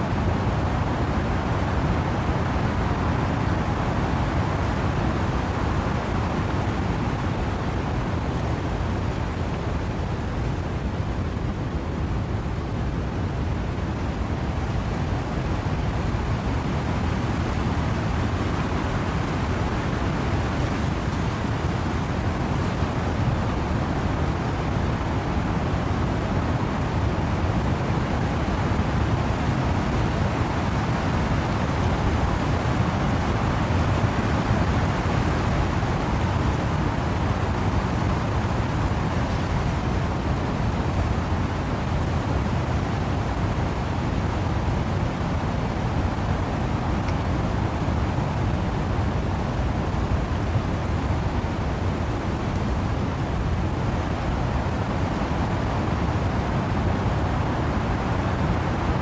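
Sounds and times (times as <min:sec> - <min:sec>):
wind and rain in trees: 0:00.0 - 0:59.0.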